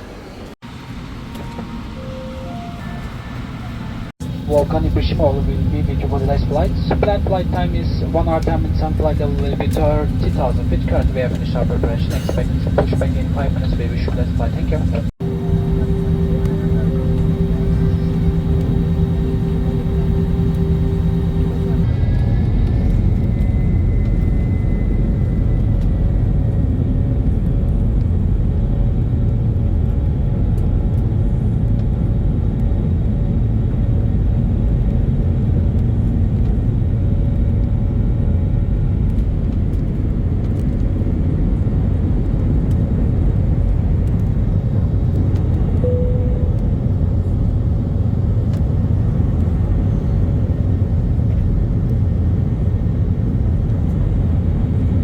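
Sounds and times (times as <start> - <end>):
airliner engine drone in cabin: 0.0 - 55.0
faint hum: 0.1 - 28.8, 39.1 - 55.0.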